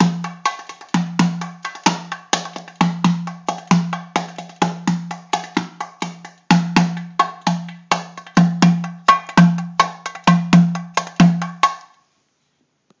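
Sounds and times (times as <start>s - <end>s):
hand drum rhythm: 0.0s - 11.9s.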